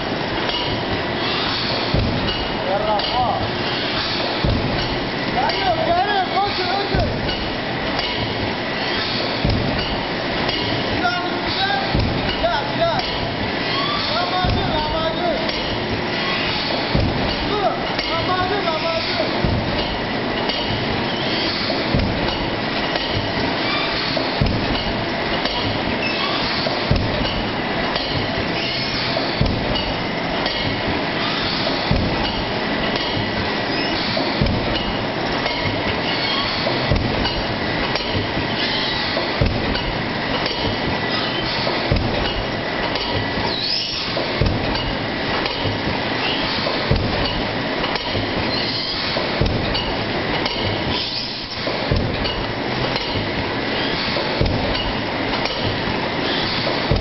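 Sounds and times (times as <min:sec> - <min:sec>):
cup forming machine running: 0:00.0 - 0:57.0
machine knock: 0:01.8 - 0:03.6, 0:04.2 - 0:06.1, 0:09.2 - 0:13.4, 0:14.2 - 0:20.9, 0:21.6 - 0:23.5, 0:24.1 - 0:33.5, 0:34.1 - 0:43.5, 0:44.1 - 0:53.6, 0:54.2 - 0:57.0.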